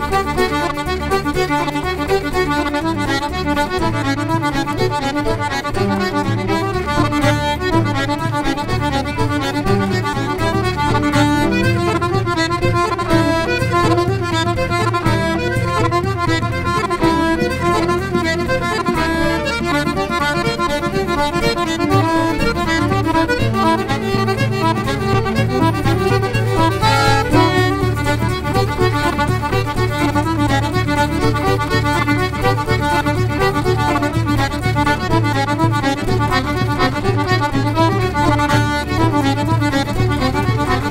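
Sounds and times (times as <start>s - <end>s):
accordion: 0.0s - 40.9s
fiddle: 0.0s - 40.9s
traditional band playing: 0.0s - 40.9s.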